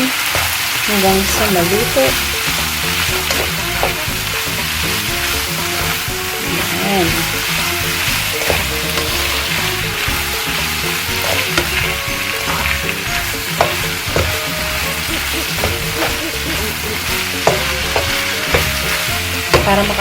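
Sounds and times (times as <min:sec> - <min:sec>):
vegetables sizzling in hot oil: 0:00.0 - 0:20.0
spatula scraping a pan: 0:00.2 - 0:20.0.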